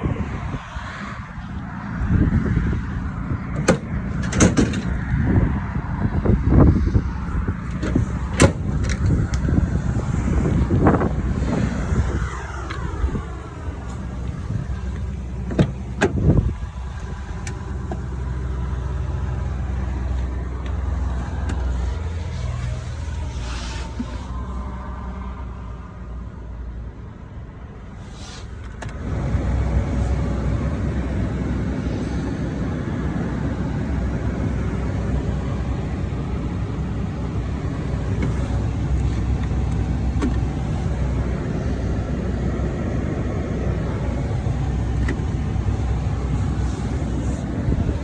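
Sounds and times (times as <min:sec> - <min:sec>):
pickup truck engine rumbling: 0:01.4 - 0:27.2, 0:28.9 - 0:48.0.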